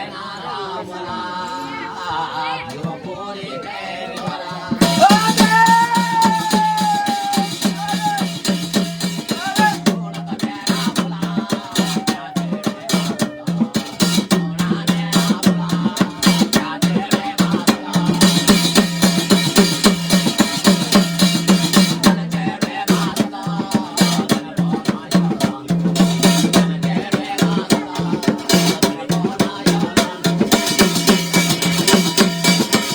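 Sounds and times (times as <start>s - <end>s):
fast dense drumming: 4.6s - 32.9s.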